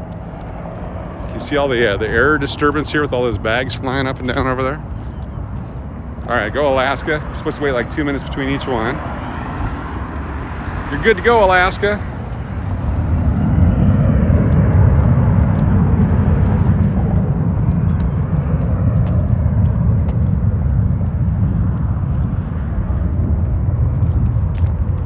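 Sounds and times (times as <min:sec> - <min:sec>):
jet engines rumbling on takeoff: 0:00.0 - 0:25.0.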